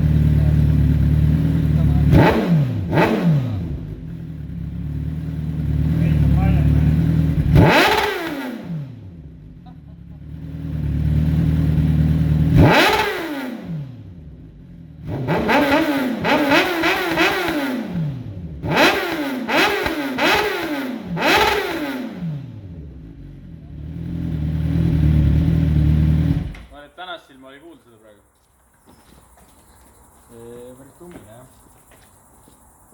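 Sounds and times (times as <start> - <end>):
motorcycle throttle blips: 0.0 - 26.8
motorcycle engine idling: 0.0 - 26.9.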